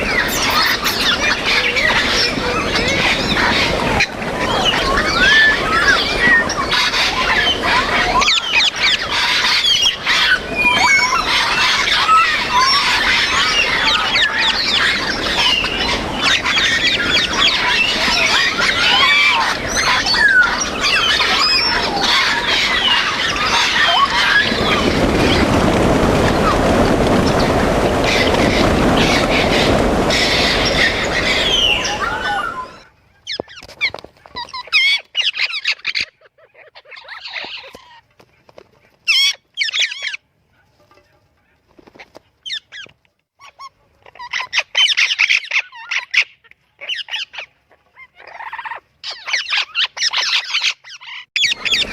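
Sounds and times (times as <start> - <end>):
parrots whistling and squawking: 0.0 - 25.4, 28.1 - 33.6, 34.4 - 38.0, 42.5 - 51.9.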